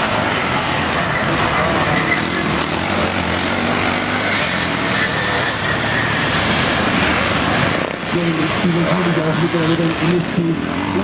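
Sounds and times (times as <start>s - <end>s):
motocross motorcycle engines revving: 0.0s - 11.0s.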